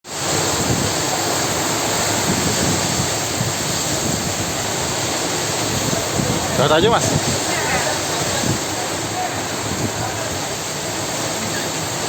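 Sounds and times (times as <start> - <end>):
heavy rain: 0.0 - 12.0
strong wind: 0.0 - 12.0
wind buffeting microphone: 0.1 - 12.0.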